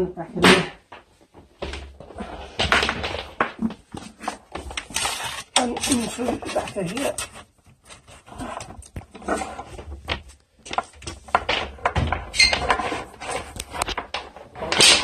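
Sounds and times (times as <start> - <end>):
cable rustling and scraping: 1.0 - 15.0.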